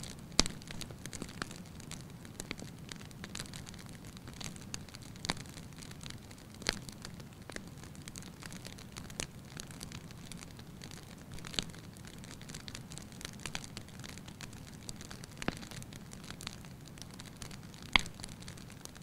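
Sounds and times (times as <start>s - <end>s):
fire snapping and popping: 0.0s - 19.0s
low rumble of flames: 0.0s - 19.0s.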